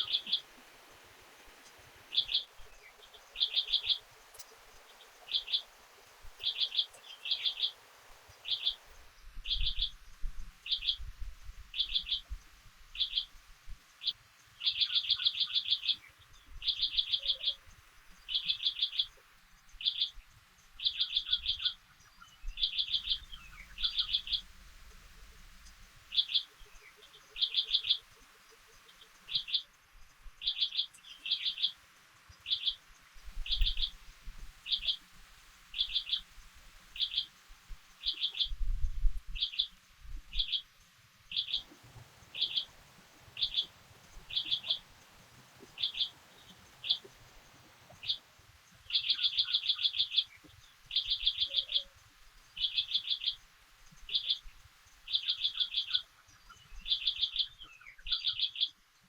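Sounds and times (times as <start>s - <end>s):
bird chirping: 0.0s - 0.7s, 1.4s - 10.0s, 11.7s - 12.4s, 13.0s - 13.4s, 14.0s - 20.2s, 20.8s - 31.8s, 32.4s - 40.7s, 41.3s - 58.8s.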